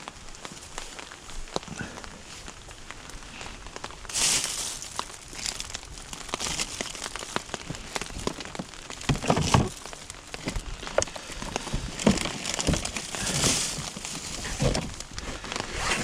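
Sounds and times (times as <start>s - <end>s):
hissing rustle: 0.0s - 16.0s
rustling and crinkling: 0.0s - 16.0s.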